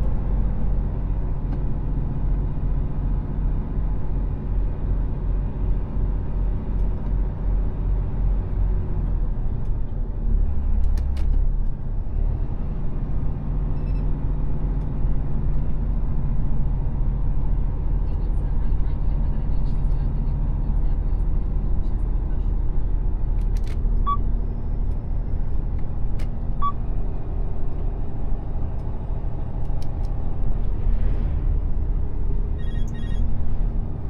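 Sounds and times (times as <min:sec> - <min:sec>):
road noise: 0:00.0 - 0:34.0
truck diesel engine droning: 0:00.0 - 0:34.0.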